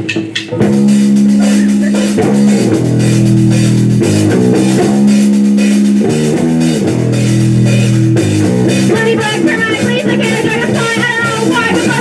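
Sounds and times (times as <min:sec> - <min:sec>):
bass guitar: 0:00.0 - 0:12.0
drum kit: 0:00.0 - 0:12.0
electric guitar chords: 0:00.0 - 0:12.0.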